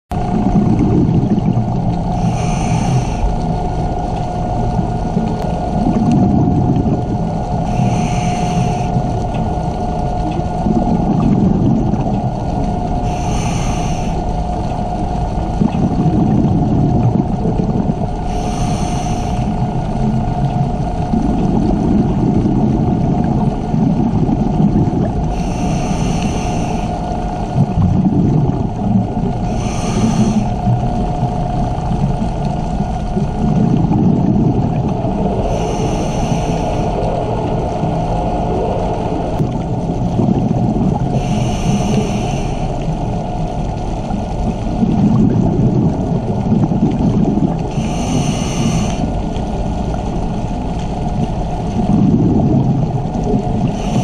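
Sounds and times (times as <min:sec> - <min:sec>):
exhaled bubbles underwater: 0:00.1 - 0:54.0
low rumble: 0:00.1 - 0:54.0
steady hum: 0:00.1 - 0:54.0.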